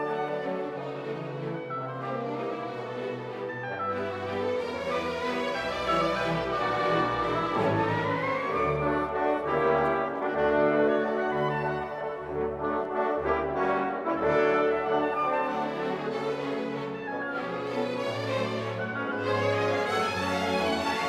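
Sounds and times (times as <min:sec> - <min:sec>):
orchestral music with brass: 0:00.0 - 0:21.0.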